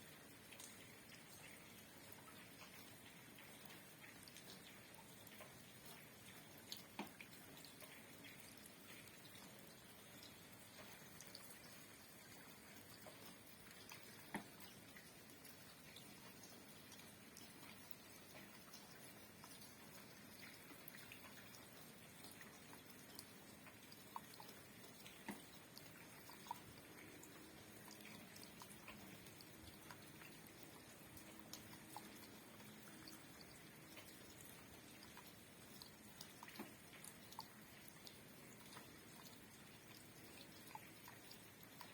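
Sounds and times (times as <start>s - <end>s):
faint steady rain: 0.0s - 41.9s
water drips: 0.0s - 41.9s.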